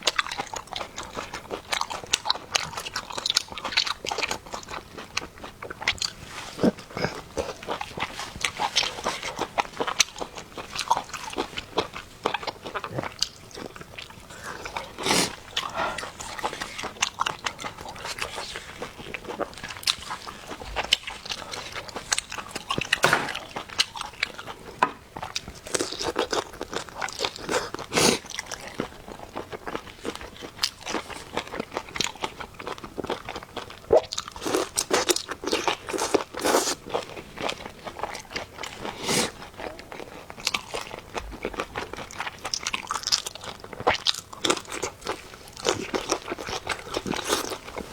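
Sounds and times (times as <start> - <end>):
chewing food with crisp crunches: 0.0 - 47.9.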